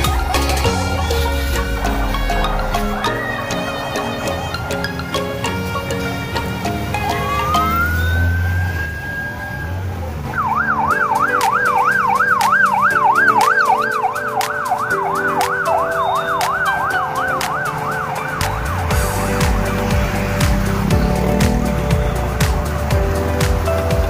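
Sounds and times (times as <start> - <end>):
police siren wailing and yelping: 0.0 - 20.2.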